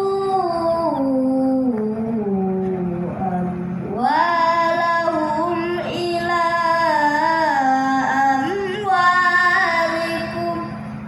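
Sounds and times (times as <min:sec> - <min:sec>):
woman chanting melodically: 0:00.0 - 0:11.0.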